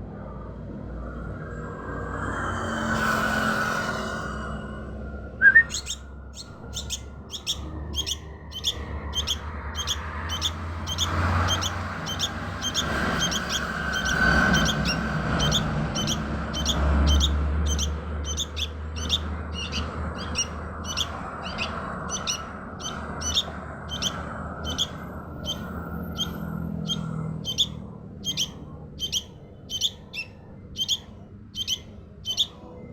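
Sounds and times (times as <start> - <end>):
young bird chirping: 5.4 - 32.6.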